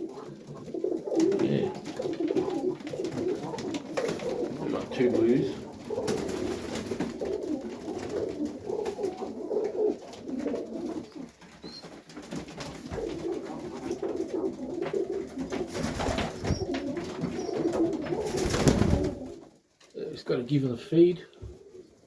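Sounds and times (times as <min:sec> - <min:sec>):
pigeons cooing: 0:00.0 - 0:19.6, 0:21.4 - 0:22.0.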